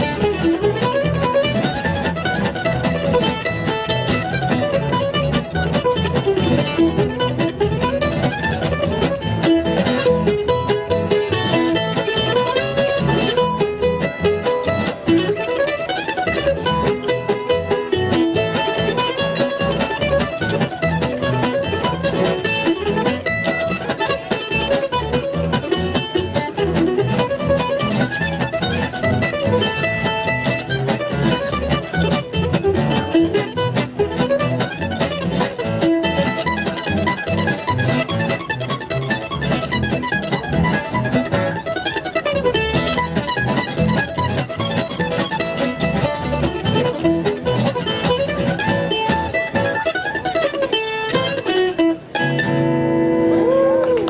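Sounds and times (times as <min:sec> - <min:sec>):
upright bass walking line: 0:00.0 - 0:50.5
acoustic guitar: 0:00.0 - 0:54.0
mandolin: 0:00.0 - 0:54.0.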